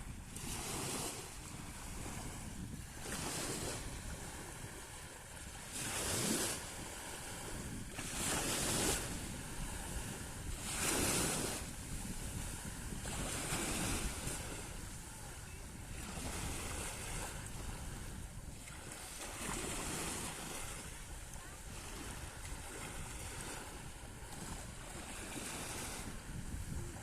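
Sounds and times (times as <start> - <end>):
waves breaking on shore: 0.0 - 27.0
wind rumble on microphone: 0.0 - 27.0.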